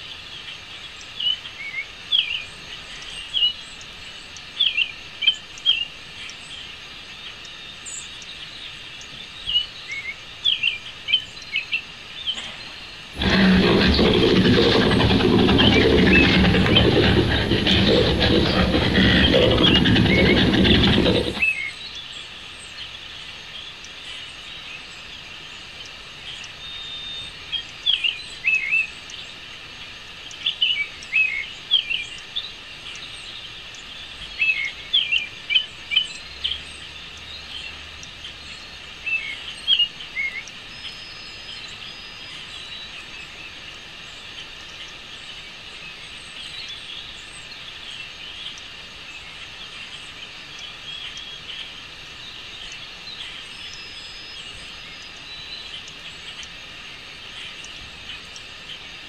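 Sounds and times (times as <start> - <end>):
steady background noise: 0.0 - 59.0.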